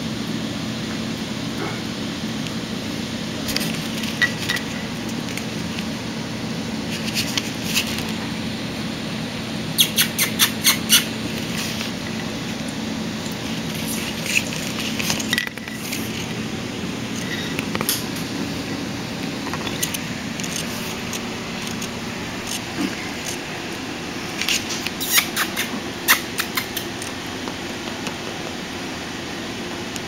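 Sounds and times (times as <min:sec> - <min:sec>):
steady low background hum: 0:00.0 - 0:30.0
puppy gnawing and chewing: 0:01.6 - 0:08.6, 0:09.8 - 0:29.2.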